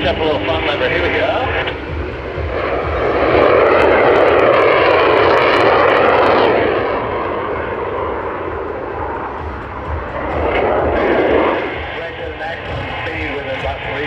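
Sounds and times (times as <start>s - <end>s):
jet engine roar: 0.0s - 14.0s
propellers droning: 0.0s - 14.0s.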